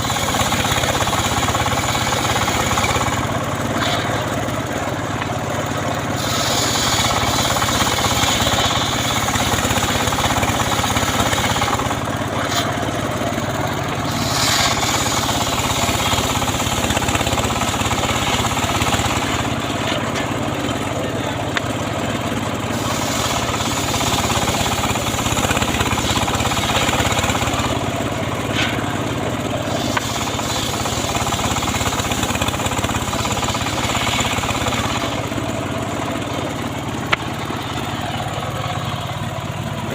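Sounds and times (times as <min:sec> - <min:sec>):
engine hum: 0:00.0 - 0:39.9
saw cutting wood: 0:00.0 - 0:39.9.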